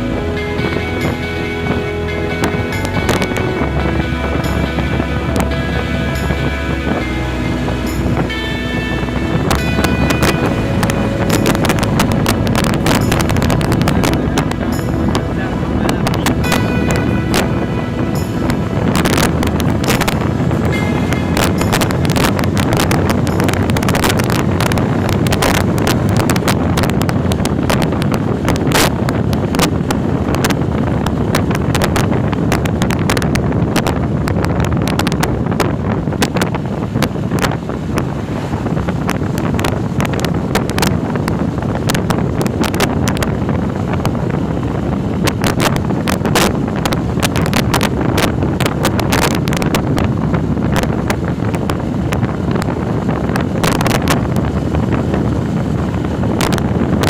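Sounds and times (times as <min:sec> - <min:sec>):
motorcycle engine and road noise: 0:00.0 - 0:57.0
wind buffeting microphone: 0:00.0 - 0:57.0.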